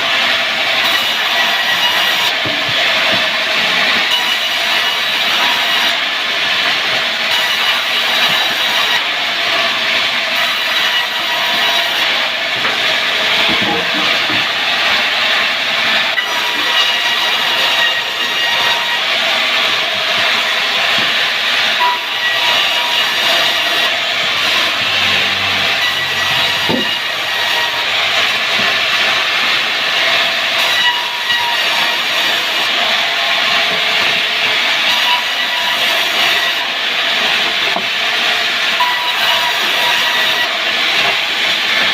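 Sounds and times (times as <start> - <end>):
sawmill saw cutting timber: 0.0 - 41.9.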